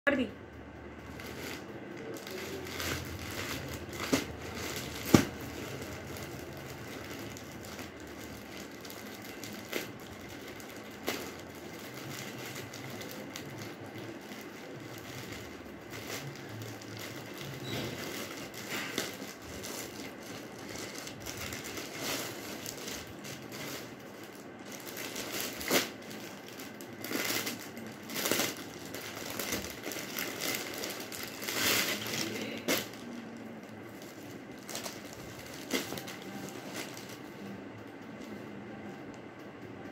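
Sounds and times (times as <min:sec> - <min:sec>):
plastic wrappers crinkling: 0:00.9 - 0:39.0.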